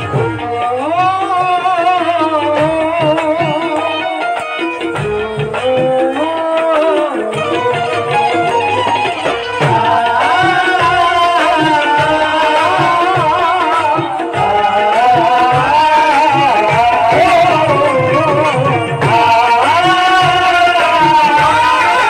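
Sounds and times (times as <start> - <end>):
harmonium held notes: 0.0 - 22.0
men singing: 0.0 - 22.0.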